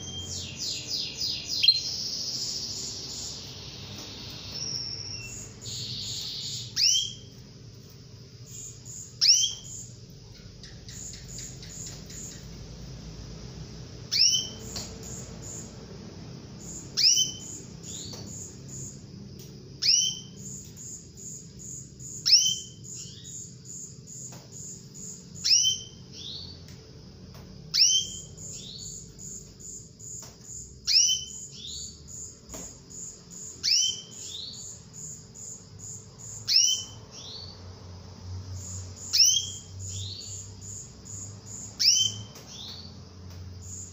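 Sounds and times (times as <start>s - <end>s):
canary calling: 0.0s - 7.4s, 8.4s - 12.8s, 14.0s - 19.0s, 19.8s - 26.6s, 27.7s - 32.3s, 32.9s - 37.7s, 38.6s - 43.0s.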